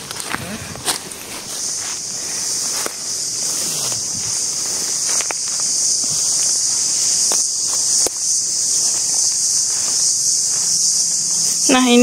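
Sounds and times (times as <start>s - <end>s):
footsteps in undergrowth: 0.0s - 12.0s
high-pitched insect chorus: 0.0s - 12.0s.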